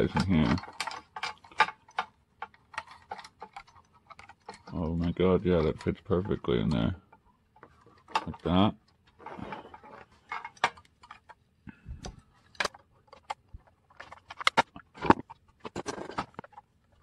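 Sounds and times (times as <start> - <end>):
plastic parts clicking and tapping: 0.0 - 17.0.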